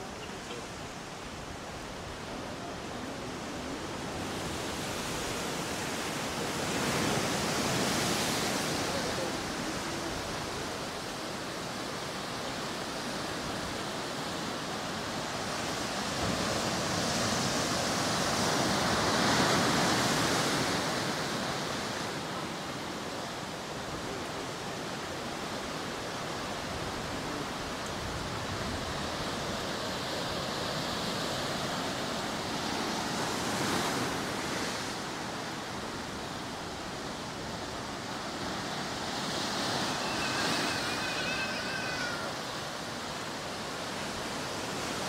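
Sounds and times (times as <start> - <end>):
rush of water: 0.0 - 45.0
waves breaking: 0.0 - 45.0.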